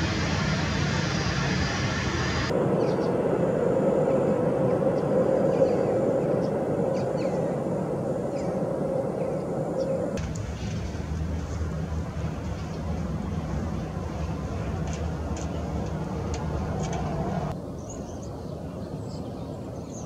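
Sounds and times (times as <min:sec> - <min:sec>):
distant jet engine noise: 0:00.0 - 0:20.0.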